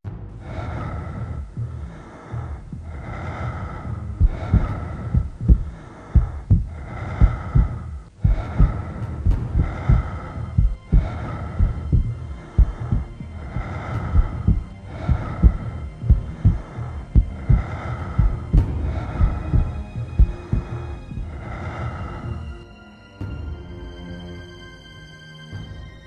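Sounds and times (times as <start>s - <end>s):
heavy heartbeat-like thudding: 0.1s - 22.4s
steady pulsing hum: 0.1s - 22.6s.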